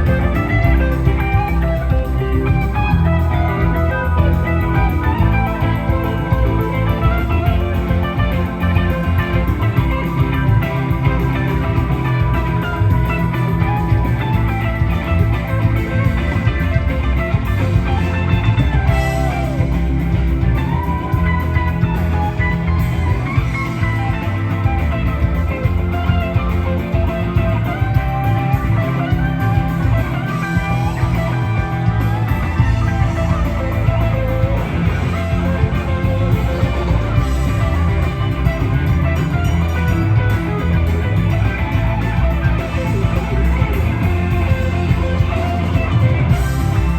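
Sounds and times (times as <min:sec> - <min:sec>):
electric guitar lead: 0:00.0 - 0:46.9
rock band playing: 0:00.0 - 0:46.9.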